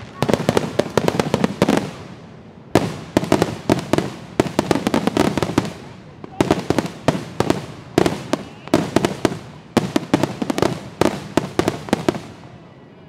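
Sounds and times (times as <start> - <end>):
fireworks bursting with sharp bangs: 0.0 - 12.9.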